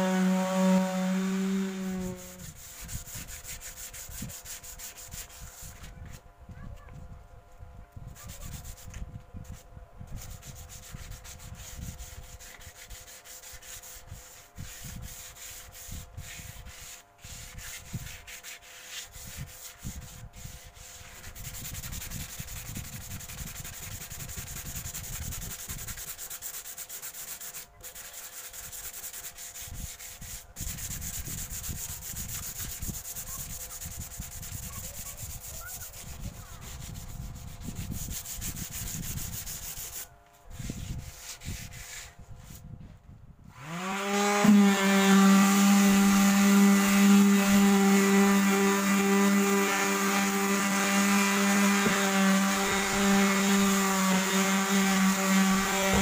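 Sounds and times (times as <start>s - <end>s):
hand sanding wood: 0.0s - 6.2s, 8.1s - 42.7s, 43.6s - 56.0s.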